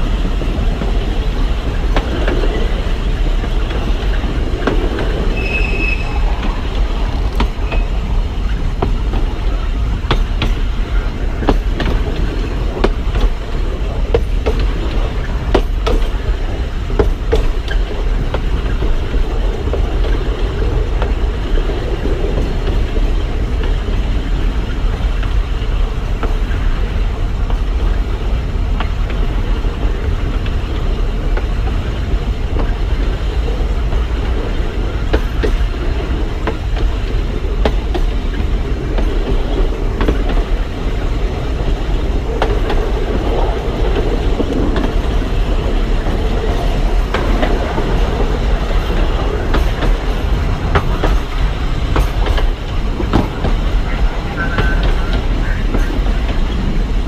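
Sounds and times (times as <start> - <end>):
diesel train rumbling: 0.0 - 57.0
wheels clicking on track: 0.0 - 57.0.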